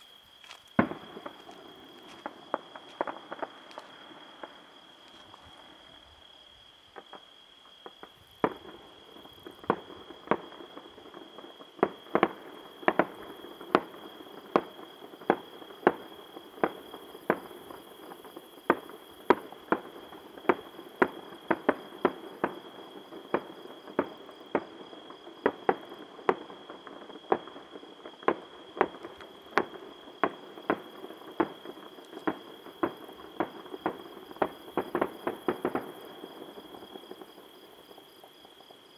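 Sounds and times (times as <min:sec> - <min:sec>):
crickets trilling: 0:00.0 - 0:38.9
distant fireworks bangs: 0:00.8 - 0:05.9, 0:06.9 - 0:38.9.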